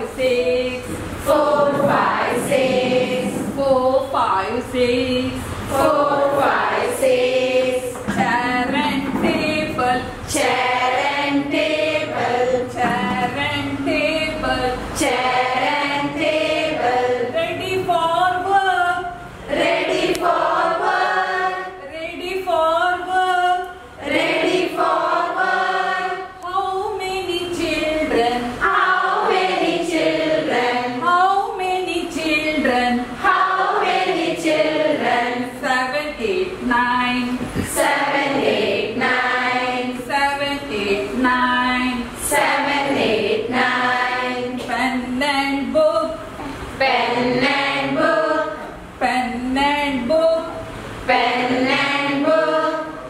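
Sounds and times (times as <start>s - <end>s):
women singing in unison: 0.0s - 53.0s.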